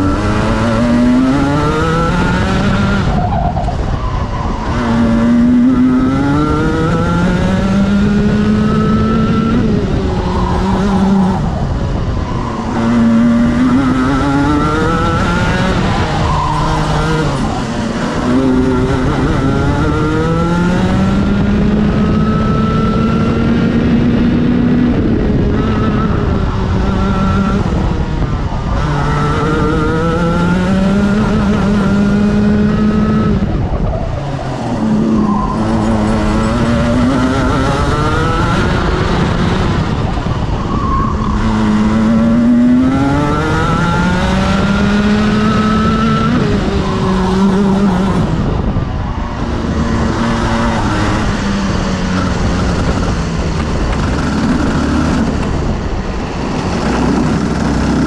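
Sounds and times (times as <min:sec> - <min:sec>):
kart engine revving: 0:00.0 - 0:58.0
steady rushing noise: 0:00.0 - 0:58.0.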